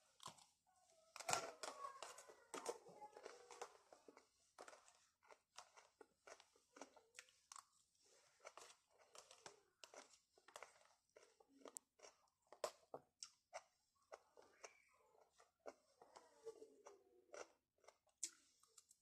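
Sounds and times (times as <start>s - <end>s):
chewing crunchy salad: 0.1s - 0.6s, 1.2s - 19.0s.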